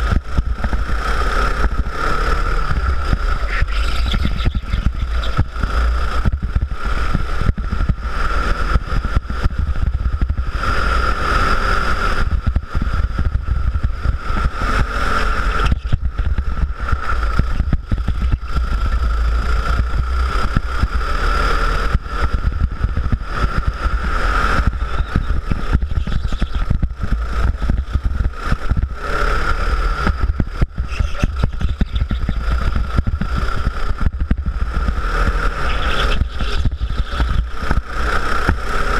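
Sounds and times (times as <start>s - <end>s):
go-kart engine revving: 0.0s - 38.9s
wind rumble on microphone: 0.0s - 38.9s.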